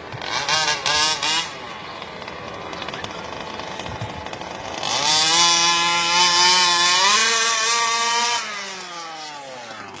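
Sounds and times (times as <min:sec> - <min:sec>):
toy car engine revving: 0:00.0 - 0:10.0.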